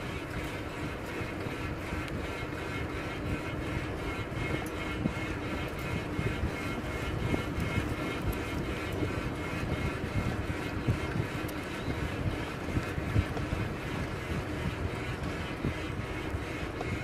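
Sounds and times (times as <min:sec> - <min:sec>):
bicycle tyre rumble on asphalt: 0:00.0 - 0:17.0
wind on microphone: 0:00.0 - 0:17.0.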